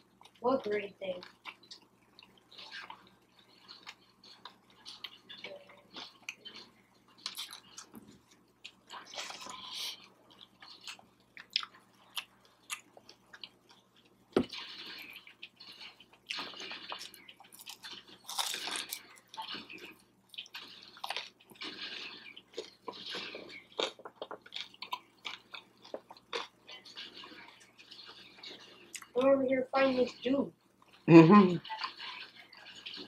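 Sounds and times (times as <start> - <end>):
crunching and chewing: 1.0 - 29.2, 30.1 - 33.0.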